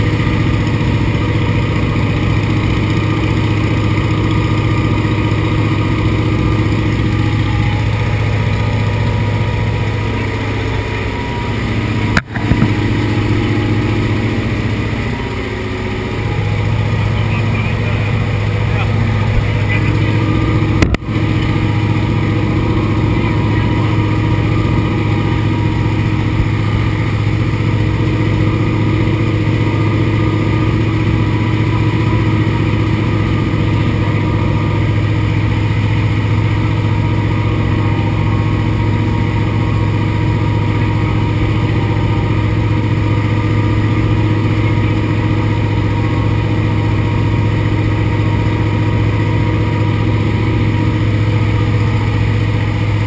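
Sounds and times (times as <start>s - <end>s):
aircraft engine droning: 0.0s - 53.0s.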